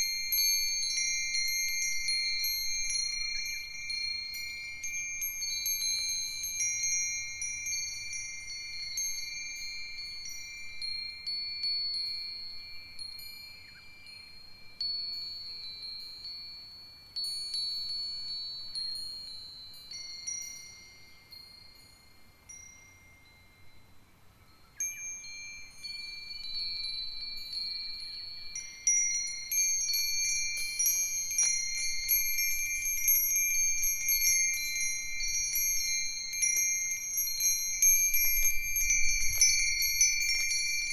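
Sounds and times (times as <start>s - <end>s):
wind chimes ringing: 0.0s - 40.9s.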